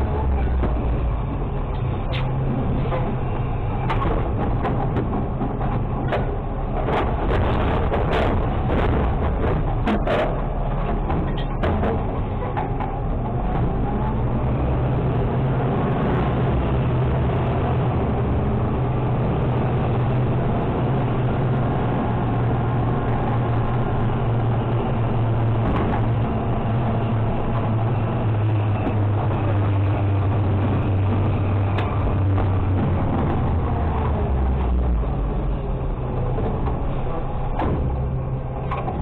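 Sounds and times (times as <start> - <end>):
garbage truck diesel engine: 0.0 - 39.0.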